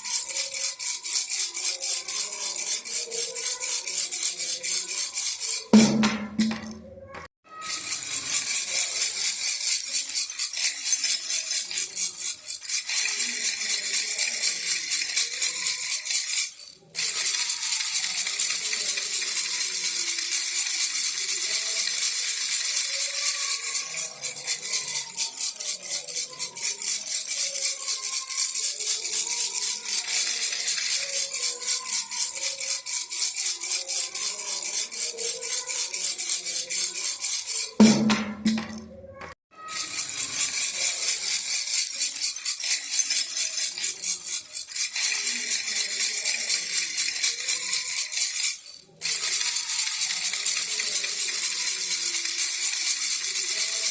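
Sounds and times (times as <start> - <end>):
baby rattle shaken fast: 0.0 - 53.9.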